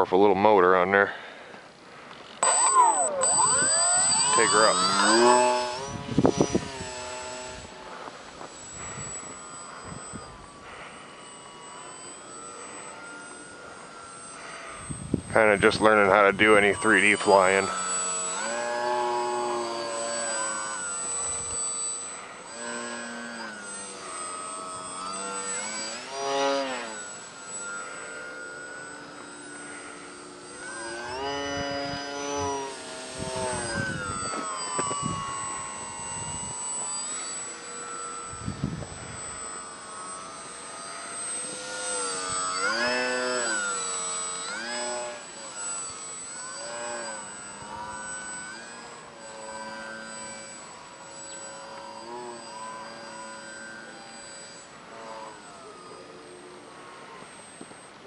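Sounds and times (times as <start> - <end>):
electric model plane motor whining: 0.0 - 58.0
steady high-pitched tone: 2.0 - 58.0.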